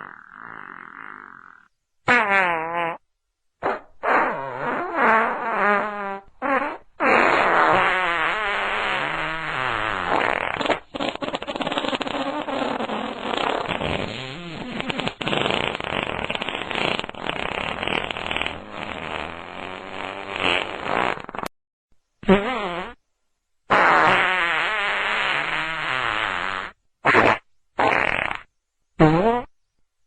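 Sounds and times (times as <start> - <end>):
fart sounds: 0.0 - 3.0, 3.6 - 21.5, 22.2 - 23.0, 23.7 - 29.6.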